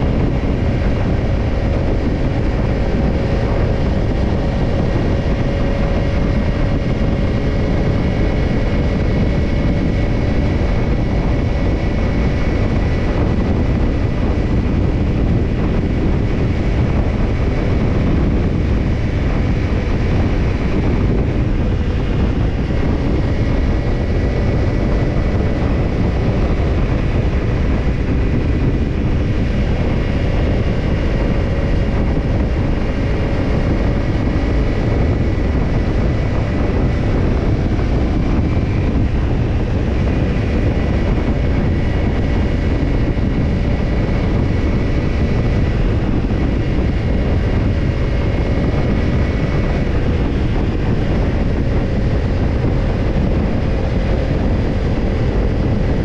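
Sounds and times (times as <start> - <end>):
motorcycle engine running steadily: 0.0 - 56.0
wind noise on microphone: 0.0 - 56.0.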